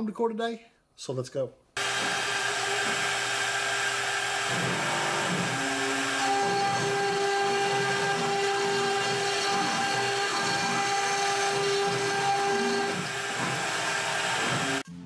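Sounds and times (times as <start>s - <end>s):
bit cutting into wood: 1.8s - 14.8s
router spindle whine: 1.8s - 14.8s.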